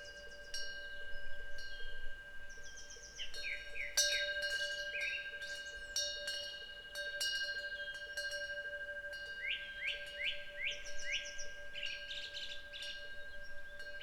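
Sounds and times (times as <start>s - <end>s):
wind bell ringing: 0.0s - 14.0s.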